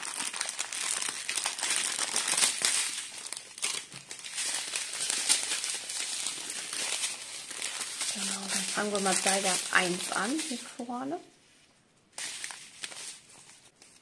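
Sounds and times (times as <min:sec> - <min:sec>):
plastic bags crinkling: 0:00.0 - 0:11.1, 0:12.2 - 0:14.0.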